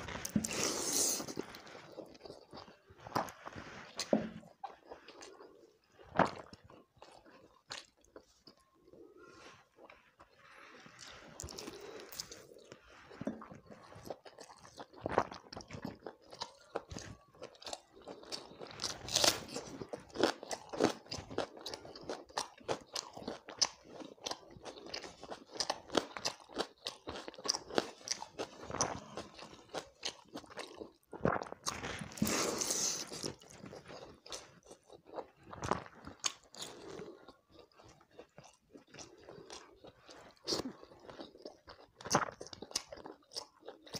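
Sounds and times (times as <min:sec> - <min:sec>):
person chewing fried chicken: 0:00.0 - 0:43.9.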